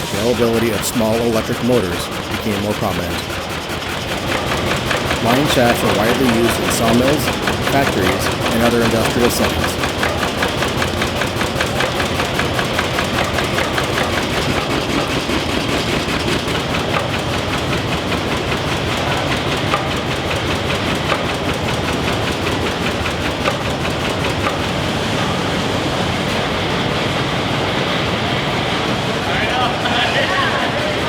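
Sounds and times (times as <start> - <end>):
machine shop machinery clatter: 0.0 - 31.0.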